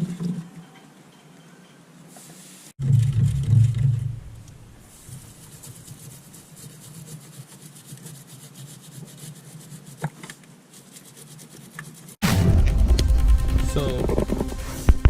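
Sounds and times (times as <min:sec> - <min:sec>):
stiff brush scrubbing metal: 0:02.8 - 0:15.0.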